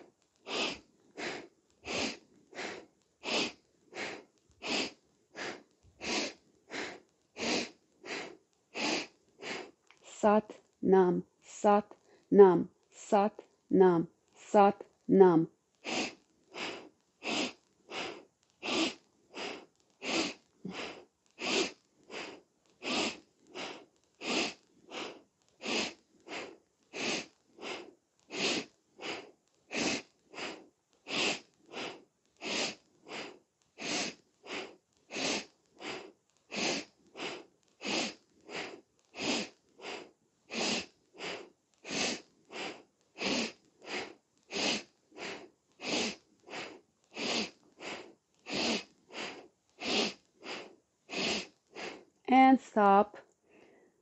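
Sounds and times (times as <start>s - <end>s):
rapid forceful nose breathing: 0.0s - 10.7s, 15.8s - 52.2s, 53.4s - 54.0s.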